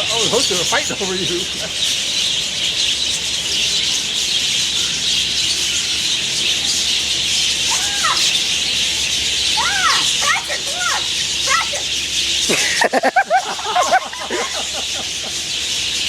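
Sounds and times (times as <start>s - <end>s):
bird squawks rising and falling: 0.0s - 16.0s
small birds chattering: 0.0s - 16.0s.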